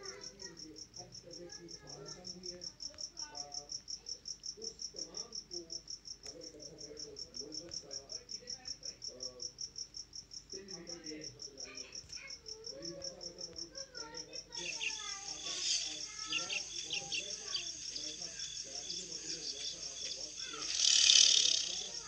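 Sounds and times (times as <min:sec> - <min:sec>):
faint voices: 0:00.0 - 0:09.6, 0:10.5 - 0:22.0
cricket chirping: 0:00.0 - 0:22.0.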